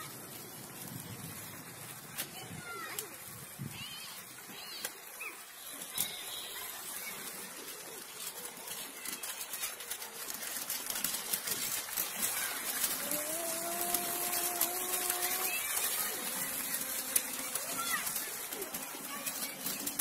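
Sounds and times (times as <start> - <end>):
plastic wheels rattling over paving: 0.0 - 20.0.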